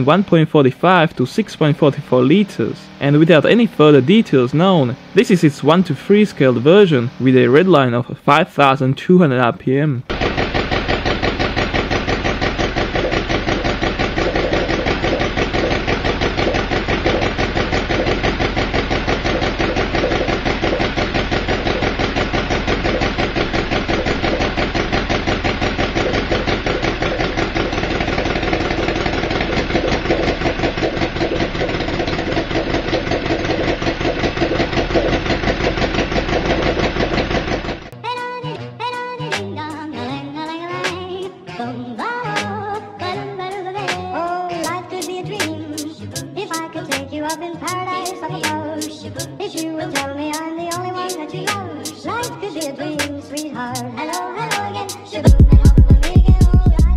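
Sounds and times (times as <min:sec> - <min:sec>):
model engine running: 0:00.0 - 0:08.7, 0:10.0 - 0:38.0, 0:44.6 - 0:56.9.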